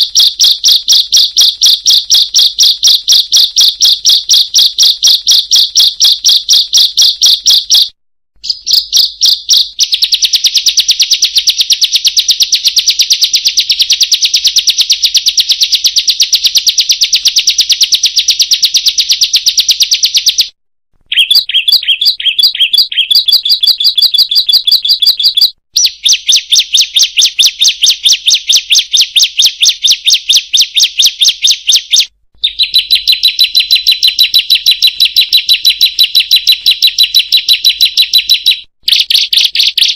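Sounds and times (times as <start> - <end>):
bird song of rapid high notes: 0.0 - 39.9.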